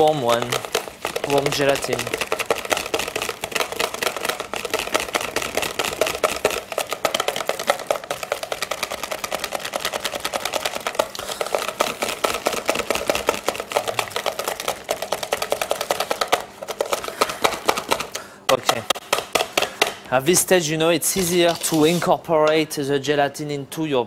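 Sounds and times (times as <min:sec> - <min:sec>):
whisk clattering in plastic bowl: 0:00.0 - 0:20.0.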